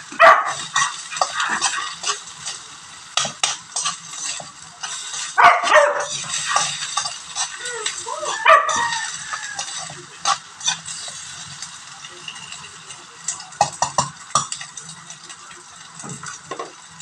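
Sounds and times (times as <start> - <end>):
spatula scraping and clicking on pan: 0.0 - 12.7, 13.3 - 14.9
food sizzling in a wok: 0.0 - 17.0.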